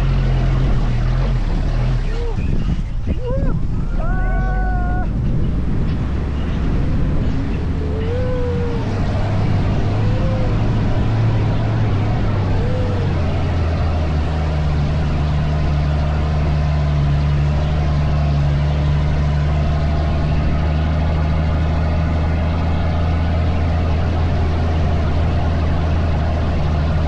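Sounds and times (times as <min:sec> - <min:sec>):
dune buggy engine running: 0:00.0 - 0:27.0.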